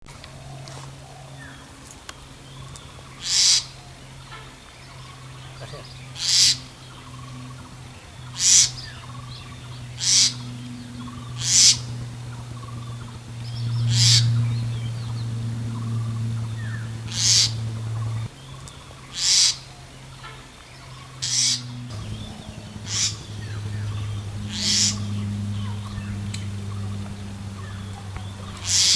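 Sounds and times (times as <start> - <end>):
steady low hum: 0.1 - 28.9
bird harsh hissing calls: 3.2 - 18.3, 19.1 - 19.8, 21.0 - 28.9.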